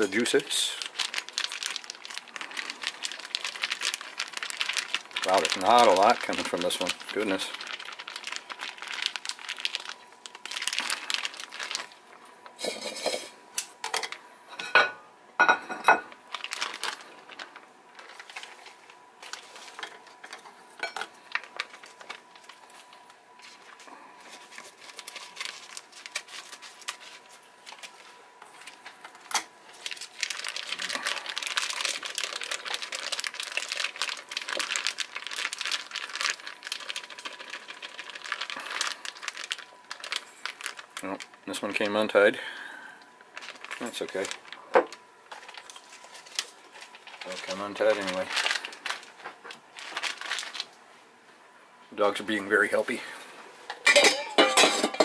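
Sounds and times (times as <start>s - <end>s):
plastic bag crinkling: 0.0s - 14.2s, 15.9s - 50.8s, 53.8s - 55.0s.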